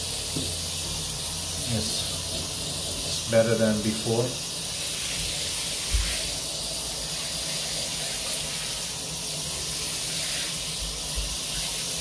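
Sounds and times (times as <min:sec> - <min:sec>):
shower spray hissing on tiles: 0:00.0 - 0:12.0.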